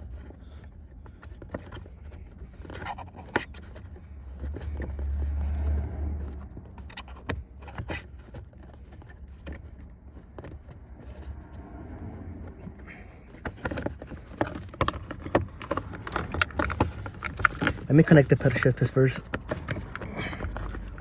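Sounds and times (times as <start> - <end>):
clicks and rattles of handling parts: 0.0 - 11.3, 12.5 - 21.0.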